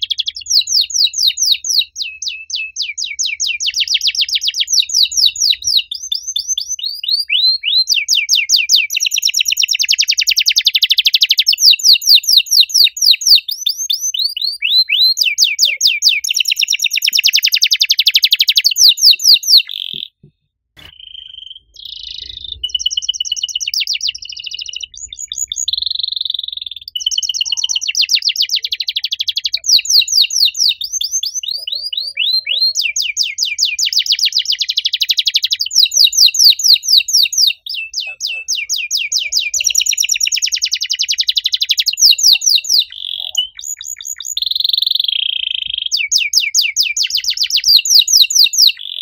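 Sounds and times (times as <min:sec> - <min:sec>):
canary singing trills: 0:00.0 - 0:49.0.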